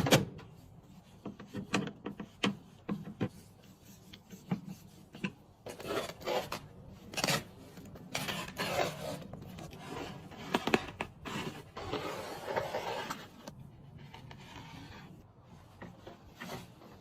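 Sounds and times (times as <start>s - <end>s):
rubbing and scraping strokes: 0.5s - 17.0s.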